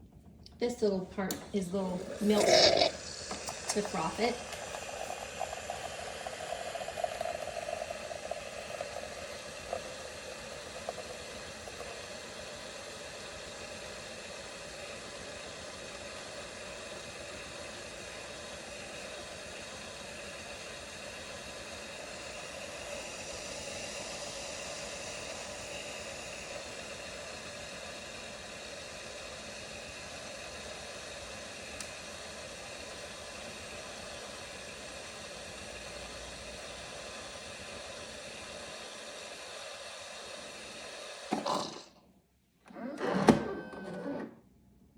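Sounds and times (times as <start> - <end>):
steam hissing from espresso machine: 1.6 - 41.9.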